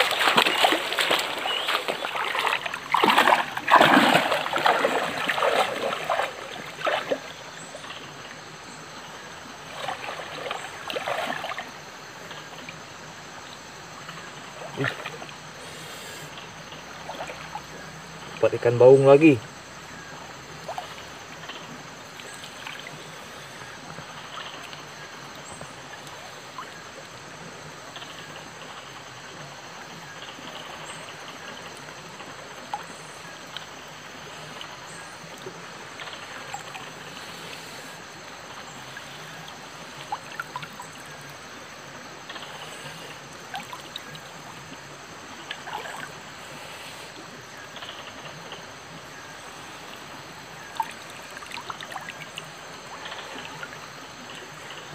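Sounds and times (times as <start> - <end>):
stream trickling and splashing: 0.0 - 54.9.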